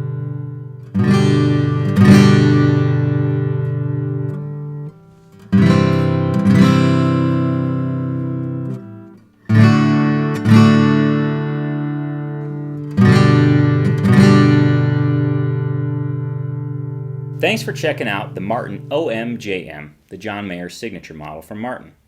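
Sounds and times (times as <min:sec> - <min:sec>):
acoustic guitar chords strummed: 0:00.0 - 0:19.8.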